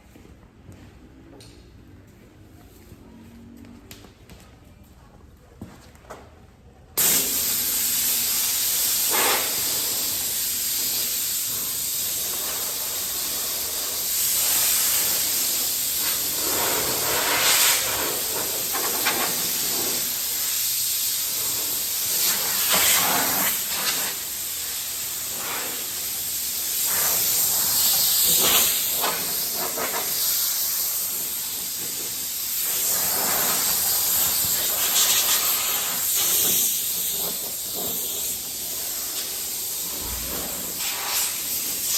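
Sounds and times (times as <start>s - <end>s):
compressed air blow gun hissing: 7.0s - 41.9s.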